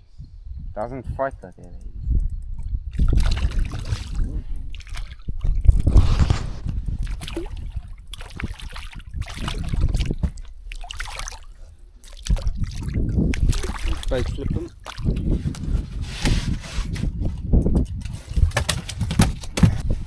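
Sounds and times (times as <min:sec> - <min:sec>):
wind buffeting microphone: 0:00.0 - 0:10.7, 0:12.3 - 0:20.0
water sloshing and trickling: 0:02.6 - 0:19.8.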